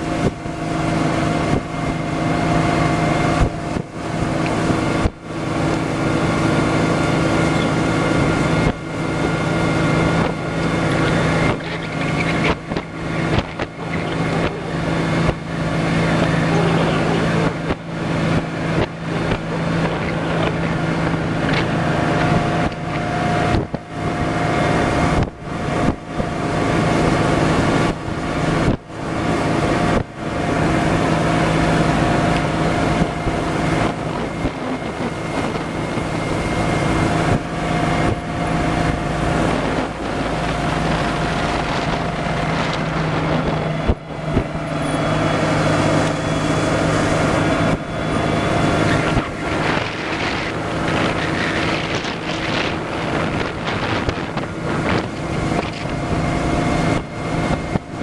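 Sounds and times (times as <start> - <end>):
outboard motor running: 0.0 - 58.0
wind noise on microphone: 0.0 - 58.0.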